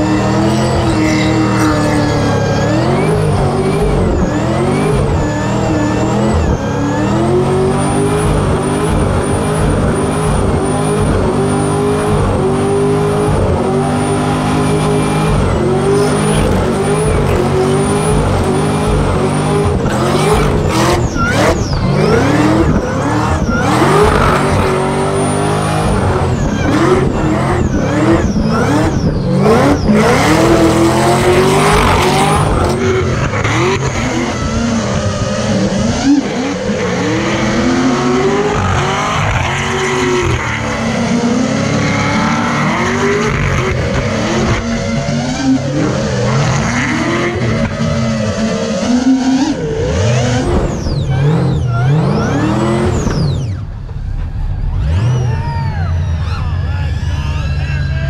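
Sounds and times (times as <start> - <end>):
car engine revving hard: 0.0 - 53.8.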